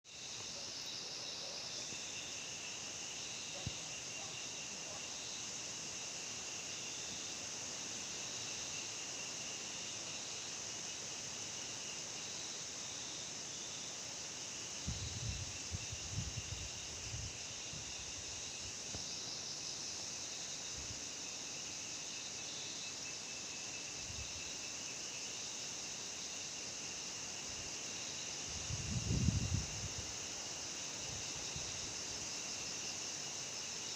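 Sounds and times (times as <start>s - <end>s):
insects chirring: 0.1s - 33.9s.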